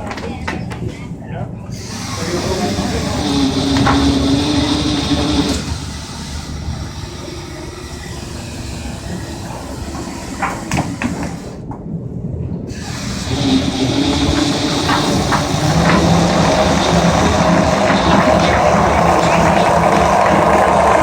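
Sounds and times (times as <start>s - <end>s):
rumble and rushing on boat deck: 0.0s - 21.0s.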